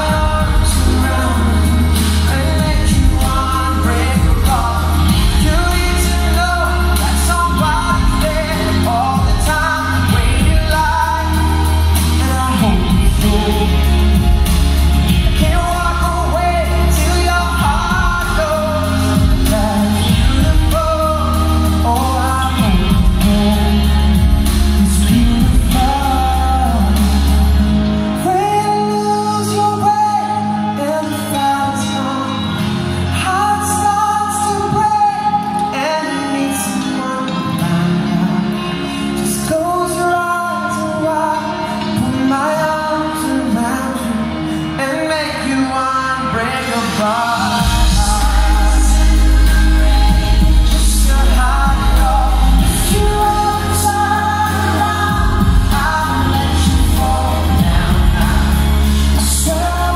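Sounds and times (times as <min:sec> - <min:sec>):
heavy bass line: 0:00.0 - 0:36.3, 0:46.2 - 0:59.9
live band playing: 0:00.0 - 0:59.9
male pop singer singing live: 0:00.0 - 0:59.9.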